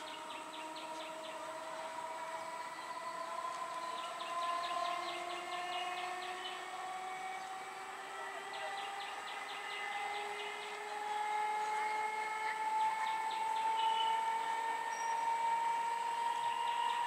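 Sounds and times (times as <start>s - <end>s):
bird chirping: 0.0s - 17.0s
electric train motor whine: 0.0s - 17.0s.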